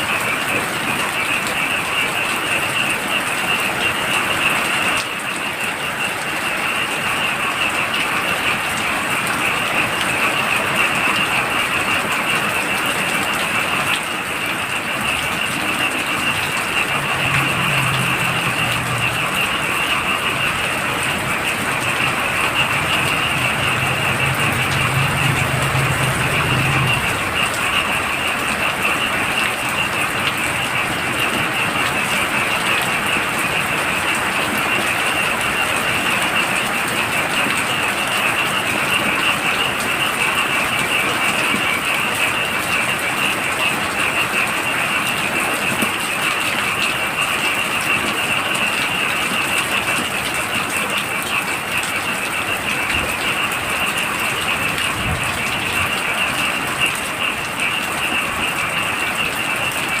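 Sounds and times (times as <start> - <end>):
frogs trilling: 0.0 - 60.0
heavy rain: 0.0 - 60.0.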